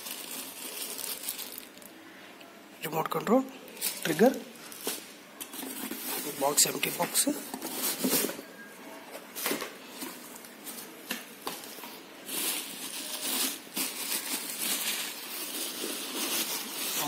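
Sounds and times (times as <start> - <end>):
bubble wrap crinkling: 0.0 - 2.0, 3.6 - 8.5, 9.3 - 17.0.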